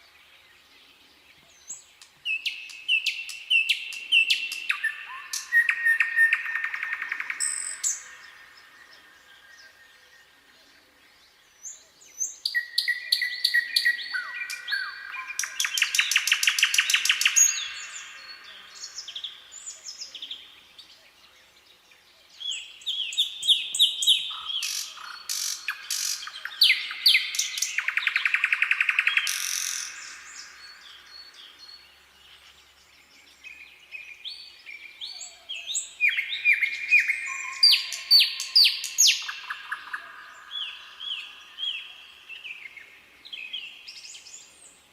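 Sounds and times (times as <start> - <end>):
nightingale singing: 0.0 - 44.9.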